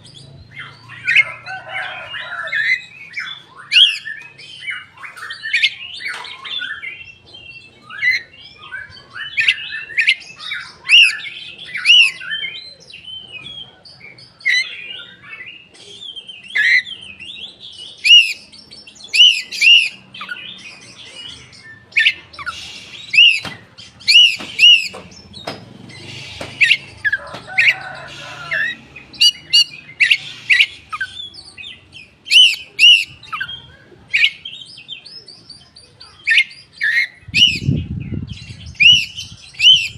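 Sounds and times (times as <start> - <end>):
chorus of birds chirping: 0.0 - 39.9.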